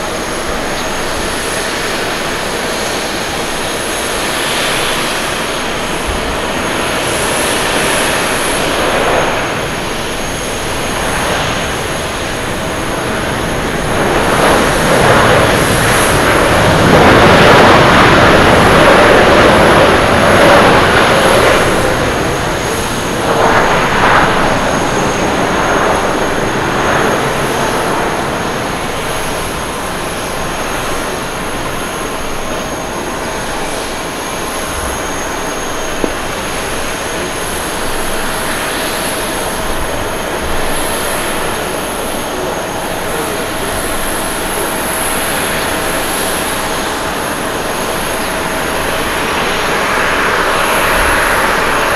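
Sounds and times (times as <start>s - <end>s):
jet engines idling whine: 0.0s - 51.9s
jet engines winding down: 0.0s - 51.9s.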